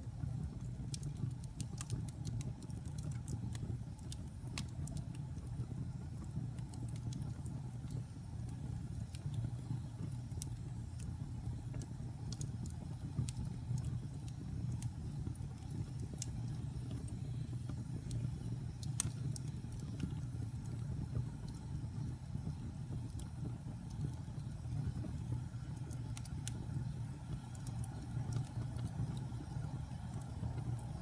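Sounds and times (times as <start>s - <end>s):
fire crackling in fireplace: 0.0s - 31.0s.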